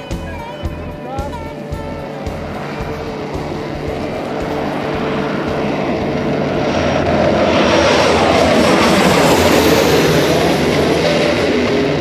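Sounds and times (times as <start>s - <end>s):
propeller plane flying overhead: 0.0s - 12.0s.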